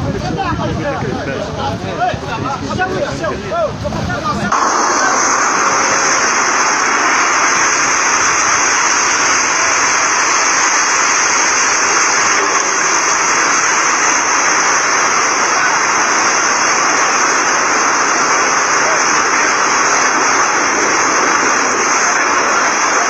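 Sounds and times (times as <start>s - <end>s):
stream rushing: 4.0s - 23.0s.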